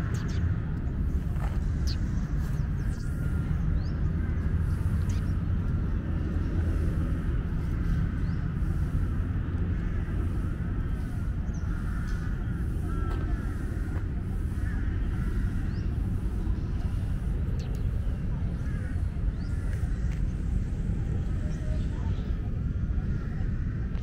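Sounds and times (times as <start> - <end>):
faint bird calls: 0.0 - 6.8, 7.6 - 24.0.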